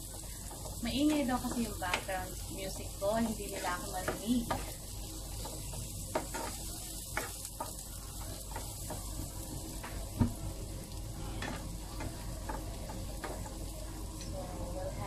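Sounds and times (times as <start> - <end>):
wooden spoon knocking and scraping pan: 0.0 - 10.4, 11.3 - 13.7
onion and garlic sizzling in oil: 0.0 - 15.0.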